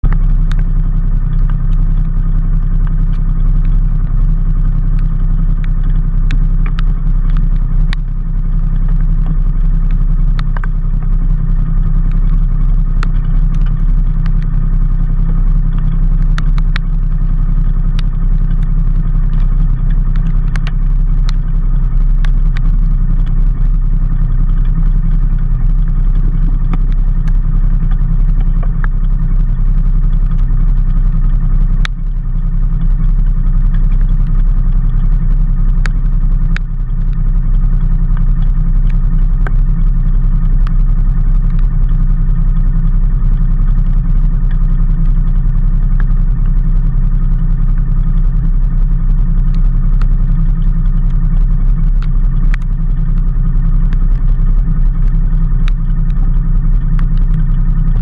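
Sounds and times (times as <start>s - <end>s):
road and wind noise: 0.0s - 58.0s
sharp ticks: 0.0s - 58.0s
vehicle engine running: 0.0s - 58.0s.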